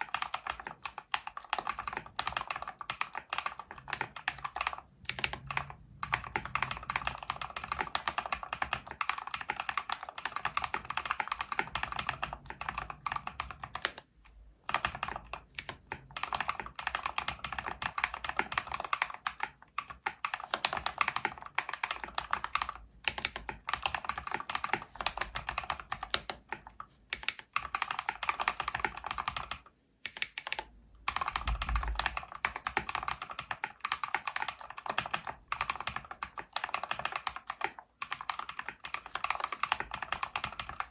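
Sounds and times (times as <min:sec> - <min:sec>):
mechanical keyboard typing: 0:00.0 - 0:14.1, 0:14.7 - 0:40.9.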